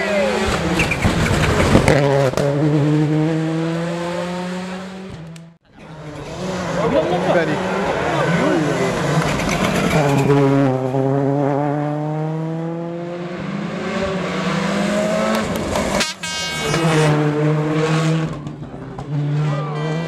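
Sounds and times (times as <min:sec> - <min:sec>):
rally car engine at high revs: 0:00.0 - 0:16.0, 0:16.6 - 0:20.0.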